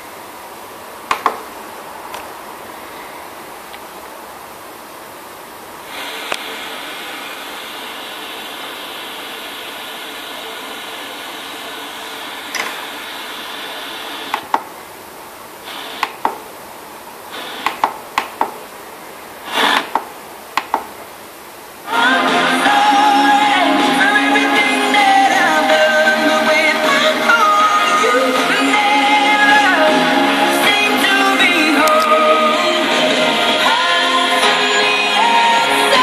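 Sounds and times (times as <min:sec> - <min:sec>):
radio static hissing: 0:00.0 - 0:36.0.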